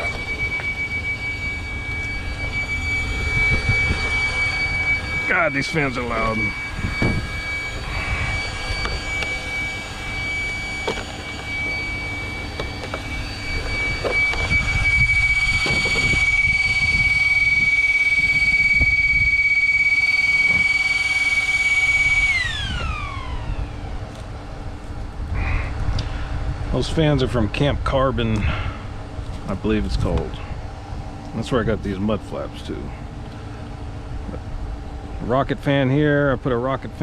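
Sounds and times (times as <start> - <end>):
electric cooling fans whining: 0.0 - 37.0.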